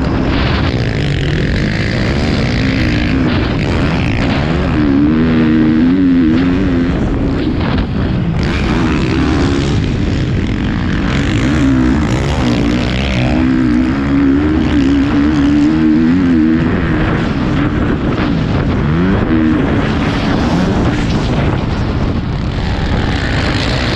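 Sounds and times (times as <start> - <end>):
motocross bike engine revving: 0.0 - 23.9.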